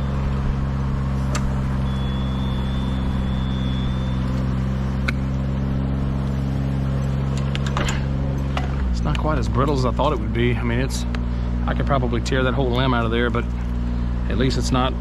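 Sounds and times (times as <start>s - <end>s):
lift engine running: 0.0s - 15.0s.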